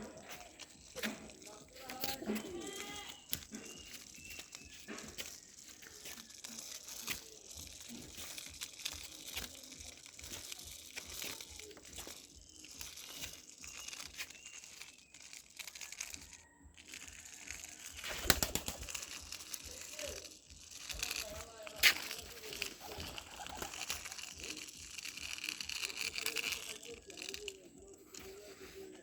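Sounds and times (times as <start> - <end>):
small clicks and knocks: 0.0 - 29.0
toys clattering: 0.0 - 29.0
toys crinkling and rustling: 0.0 - 29.0.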